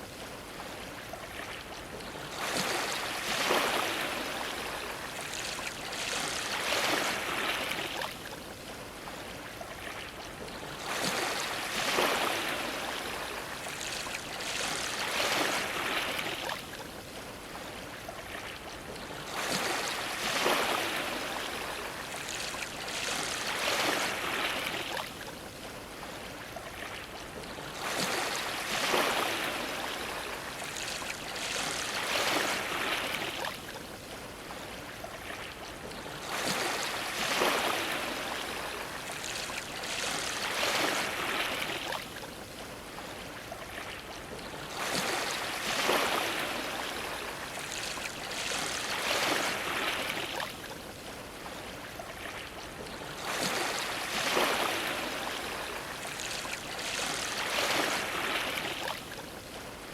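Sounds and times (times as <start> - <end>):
ocean waves washing against dock: 10.6 - 59.9.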